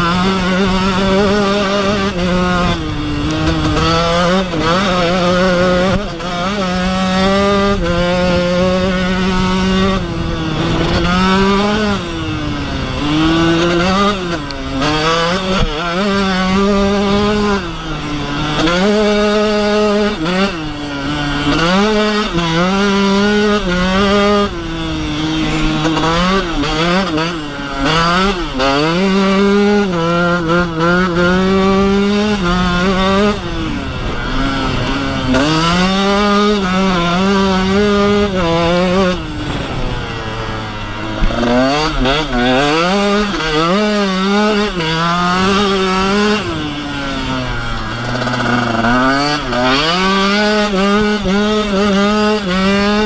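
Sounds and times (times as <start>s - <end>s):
motocross engine revving hard: 0.0s - 53.0s.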